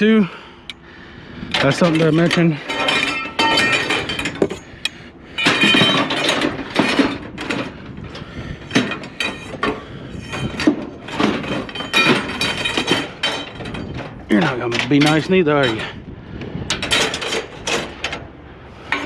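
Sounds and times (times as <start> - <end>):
scrap metal clanking: 1.5 - 16.0, 16.7 - 19.0.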